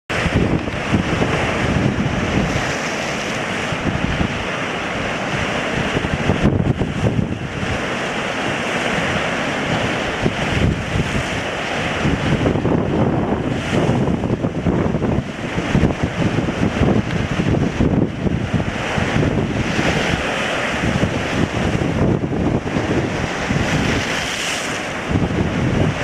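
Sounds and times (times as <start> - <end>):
strong gusty wind: 0.1 - 26.0.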